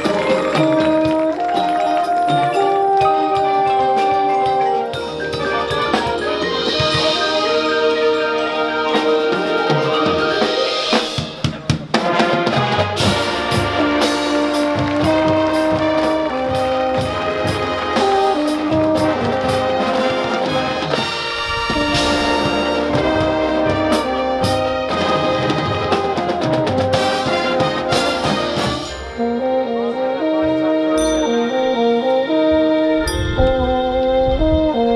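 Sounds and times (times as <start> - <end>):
marching band playing: 0.0 - 34.9.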